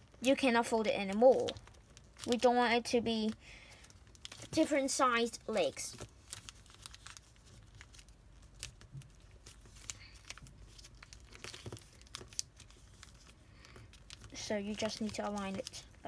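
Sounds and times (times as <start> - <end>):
paper crinkling and creasing: 0.0 - 16.0.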